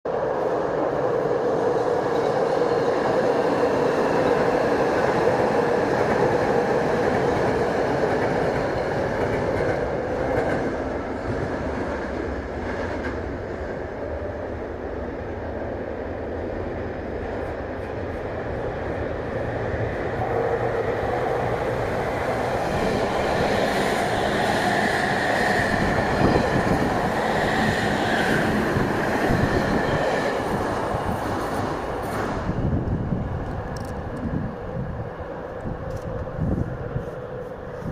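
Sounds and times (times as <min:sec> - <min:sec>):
train wheels rumbling on rails: 0:00.3 - 0:37.9.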